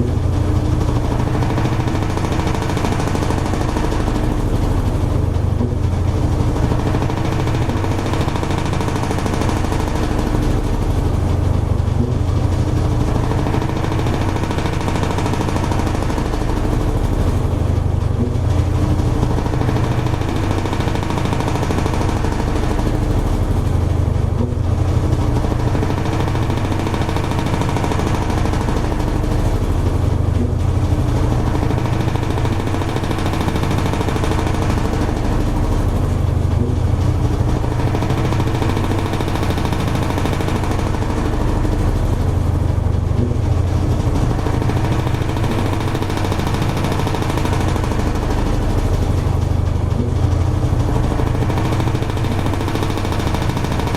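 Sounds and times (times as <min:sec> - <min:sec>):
washing machine running: 0:00.0 - 0:53.9.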